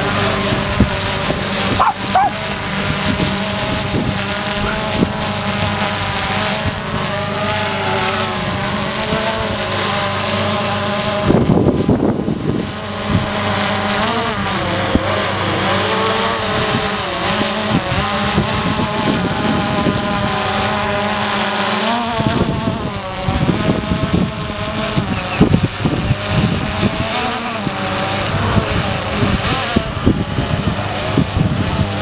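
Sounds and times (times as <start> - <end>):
drone propellers humming: 0.0 - 32.0
wind buffeting microphone: 0.0 - 32.0.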